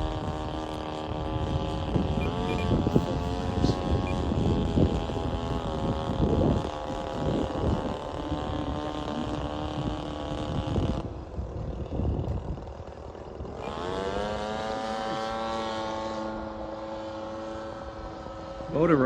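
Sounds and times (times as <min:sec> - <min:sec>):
model plane motor and propeller: 0:00.0 - 0:19.0.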